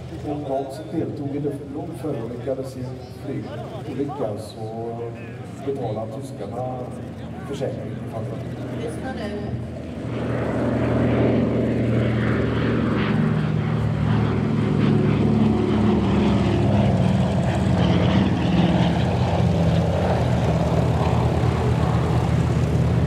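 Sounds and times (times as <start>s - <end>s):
propeller aircraft engine hum: 0.0s - 23.0s.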